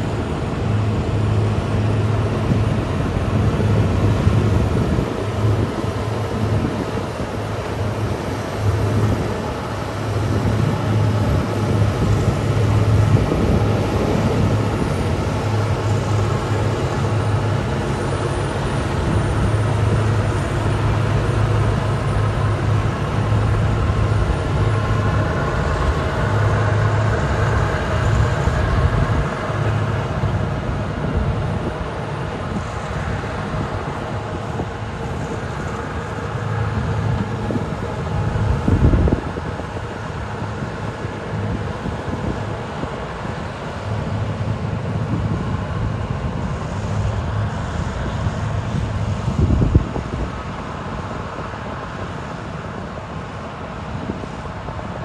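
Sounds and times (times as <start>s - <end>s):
diesel engine hum: 0.0s - 55.0s.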